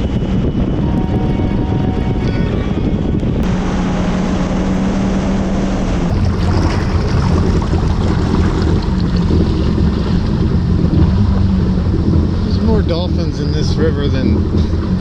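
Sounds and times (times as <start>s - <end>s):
watercraft engine running: 0.0s - 15.0s
wind on microphone: 0.0s - 15.0s
water rushing: 0.6s - 15.0s.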